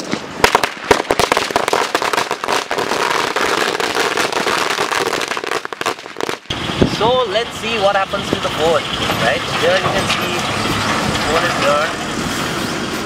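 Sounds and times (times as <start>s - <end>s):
firecrackers going off: 0.0s - 13.0s.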